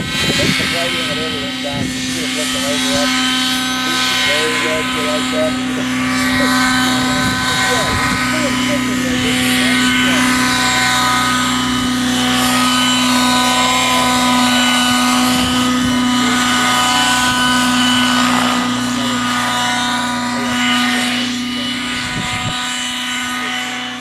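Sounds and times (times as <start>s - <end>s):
rc helicopter engine and rotors: 0.0s - 24.0s.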